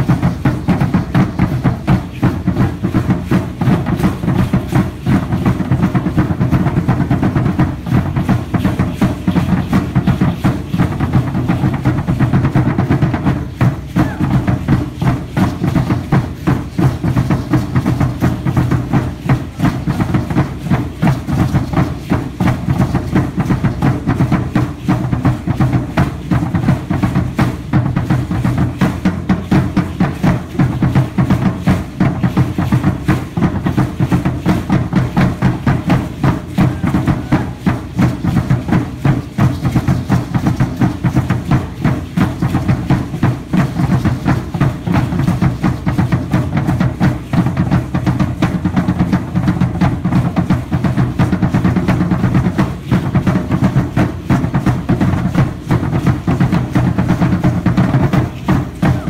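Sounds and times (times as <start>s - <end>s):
wooden drum beaten in dance rhythm: 0.0s - 59.0s.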